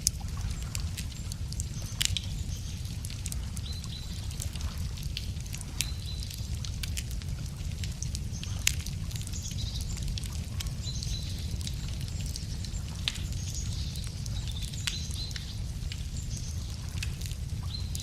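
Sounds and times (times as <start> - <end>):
wood fire crackling: 0.0 - 18.0
small birds chirping: 0.4 - 6.6, 8.2 - 18.0.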